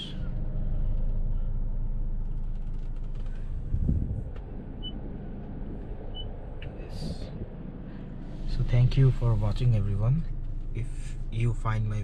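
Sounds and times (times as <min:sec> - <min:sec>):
air conditioning running: 0:00.0 - 0:12.0
car cabin idling rumble: 0:00.0 - 0:12.0.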